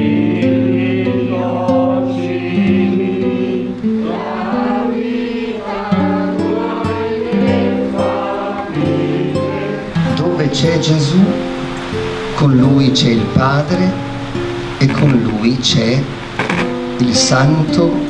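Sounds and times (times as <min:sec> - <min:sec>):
congregation singing a hymn: 0:00.0 - 0:18.0
guitar accompaniment: 0:00.0 - 0:18.0.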